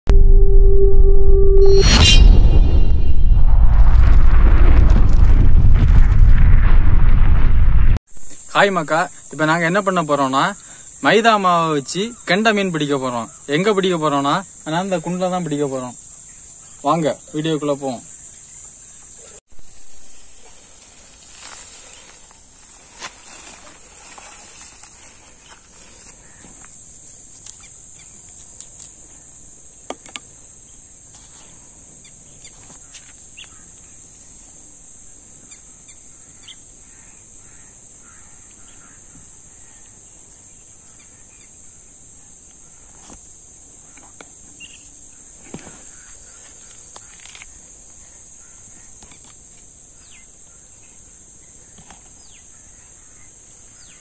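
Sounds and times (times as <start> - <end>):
insects chorus: 8.1 - 54.0.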